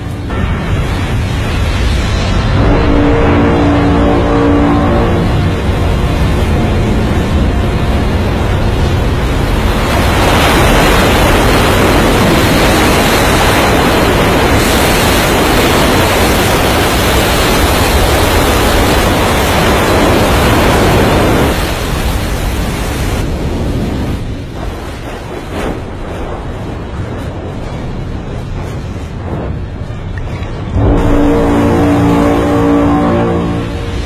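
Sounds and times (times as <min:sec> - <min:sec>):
waves breaking over rocks: 0:00.0 - 0:34.0
wind buffeting microphone: 0:03.9 - 0:34.0.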